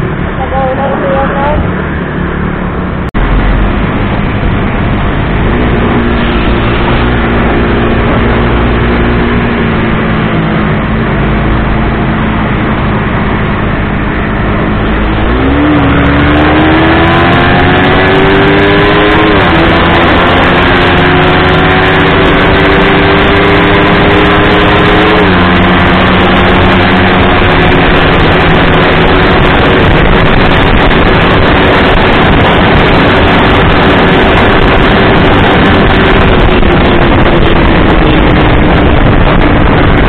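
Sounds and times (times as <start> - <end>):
motorcycle engine: 0.0 - 40.0
wind rush on microphone: 0.0 - 40.0.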